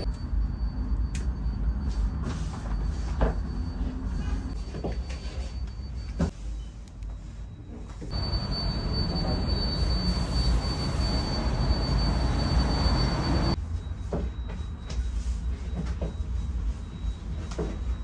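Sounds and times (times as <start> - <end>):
thin high whine: 0.0 - 18.0.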